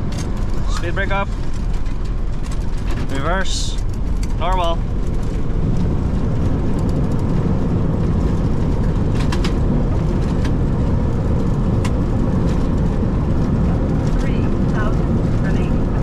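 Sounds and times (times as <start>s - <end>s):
jet engines in reverse thrust: 0.0s - 16.0s
runway rumble: 0.0s - 16.0s.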